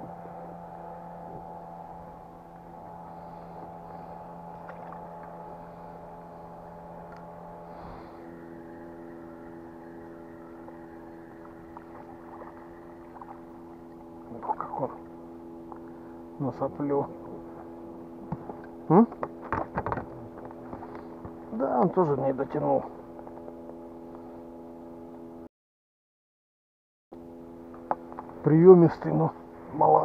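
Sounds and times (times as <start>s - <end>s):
outboard motor droning: 0.0s - 25.5s, 27.2s - 30.0s.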